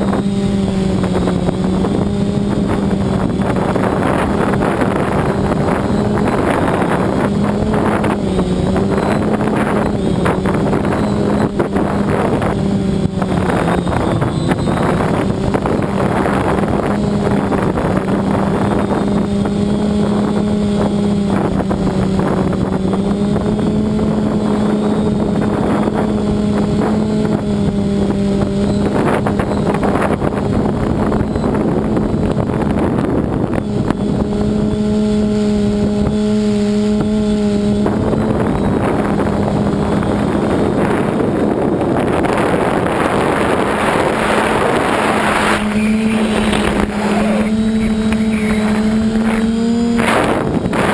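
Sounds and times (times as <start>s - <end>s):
drone motors humming: 0.0s - 35.5s, 42.0s - 50.9s
wind buffeting microphone: 0.0s - 50.9s.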